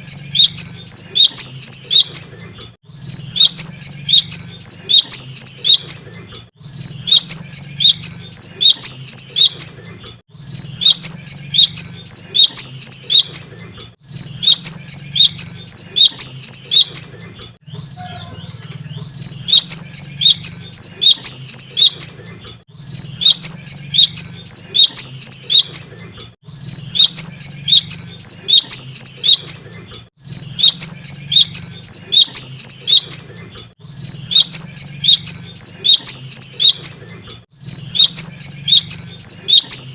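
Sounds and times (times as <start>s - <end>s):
bird singing high chirped notes: 0.0s - 2.3s, 2.9s - 39.9s.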